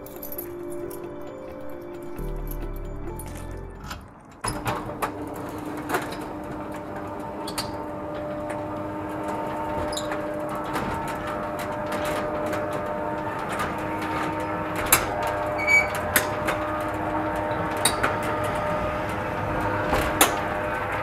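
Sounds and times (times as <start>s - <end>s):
metal roller shutter running down: 3.3s - 21.0s.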